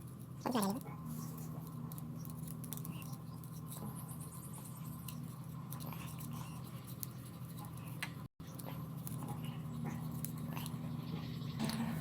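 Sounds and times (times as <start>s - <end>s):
light clicks and scratches: 0.0s - 12.0s.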